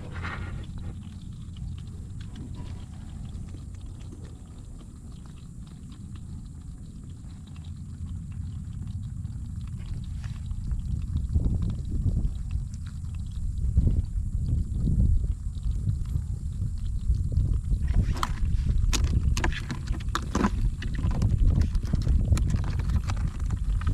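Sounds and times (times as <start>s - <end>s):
crabs clicking and scratching: 0.0s - 23.9s
low steady rumble: 0.0s - 23.9s.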